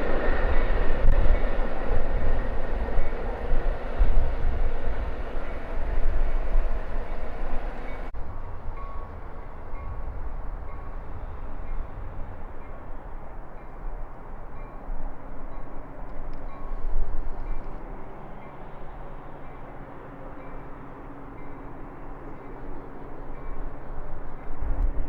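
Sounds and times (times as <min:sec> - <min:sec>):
train rumbling on tracks: 0:00.0 - 0:25.0.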